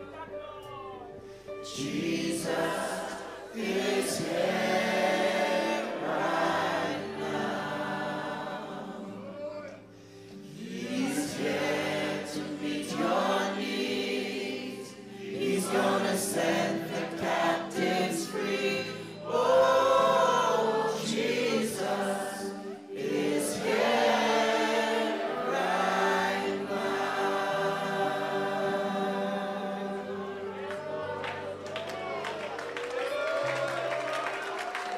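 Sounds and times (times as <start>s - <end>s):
group singing gospel song: 1.6s - 31.1s.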